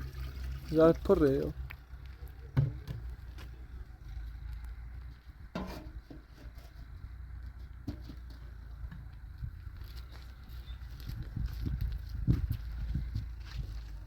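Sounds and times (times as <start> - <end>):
tractor engine idling: 0.0 - 11.4.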